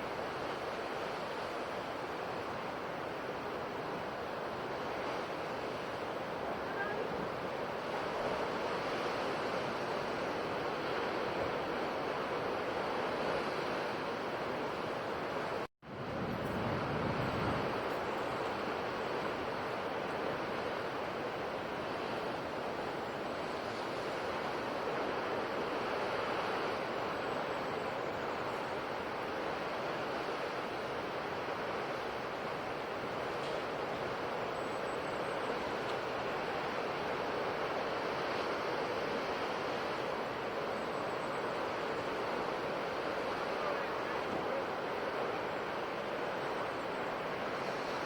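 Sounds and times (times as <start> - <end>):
ocean surf washing onto shore: 0.0 - 48.0.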